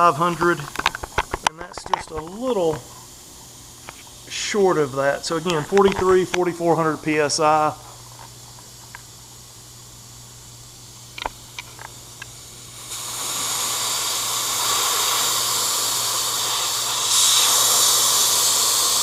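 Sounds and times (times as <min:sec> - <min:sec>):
compressed air hissing: 0:00.0 - 0:19.0.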